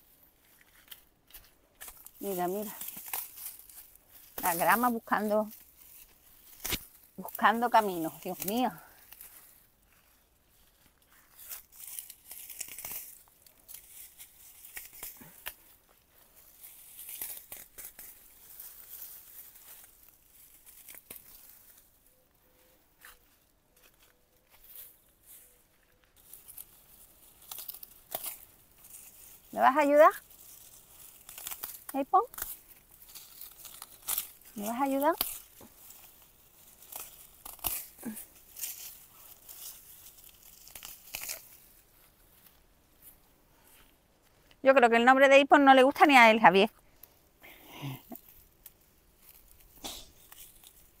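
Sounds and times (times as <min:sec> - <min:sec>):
grass rustling and tearing: 0:00.0 - 0:45.2, 0:46.0 - 0:51.0.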